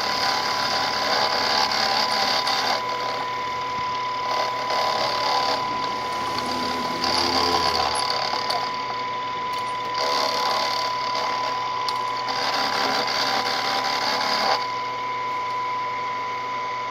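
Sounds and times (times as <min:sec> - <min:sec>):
end mill cutting metal: 0:00.0 - 0:14.8
spindle whining: 0:00.0 - 0:16.3.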